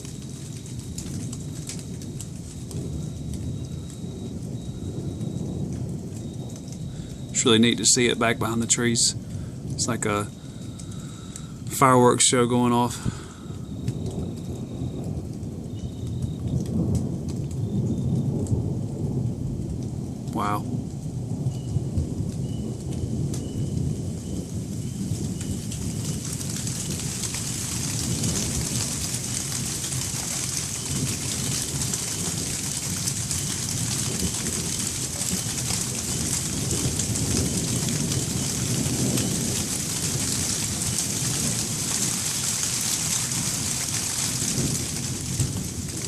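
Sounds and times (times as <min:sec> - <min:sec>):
distant rolling thunder: 0:00.0 - 0:46.0
rain falling: 0:00.0 - 0:46.0.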